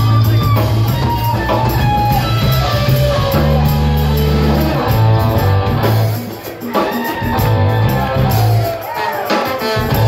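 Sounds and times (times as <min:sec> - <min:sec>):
bass guitar: 0:00.0 - 0:10.0
drums: 0:00.0 - 0:10.0
electric guitar: 0:00.0 - 0:10.0.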